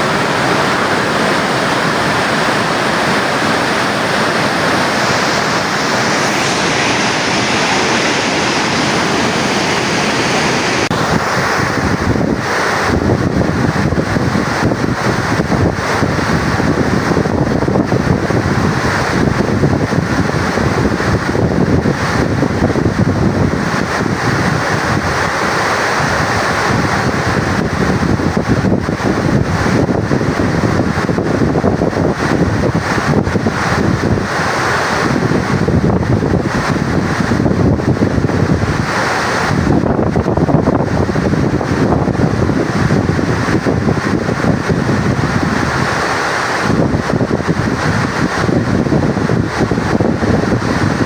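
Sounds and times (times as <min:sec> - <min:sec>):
water rushing down spillway: 0:00.0 - 0:13.0, 0:22.9 - 0:51.0
wind buffeting microphone: 0:00.0 - 0:25.2, 0:26.0 - 0:51.0.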